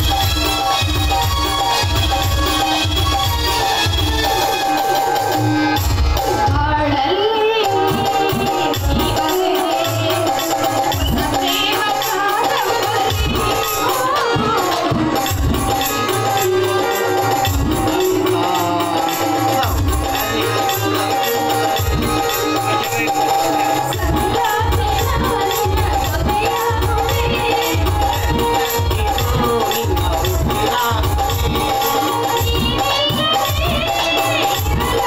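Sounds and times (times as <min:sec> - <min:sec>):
drum beats: 0:00.0 - 0:35.0.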